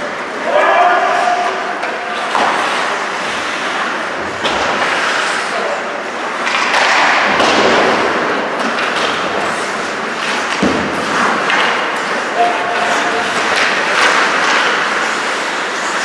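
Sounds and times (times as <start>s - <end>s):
sticks and puck clacking: 0.0s - 16.0s
skate blades scraping ice: 1.1s - 16.0s.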